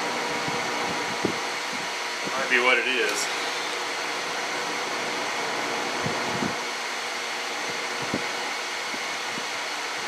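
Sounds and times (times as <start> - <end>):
fan whirring: 0.0 - 10.0.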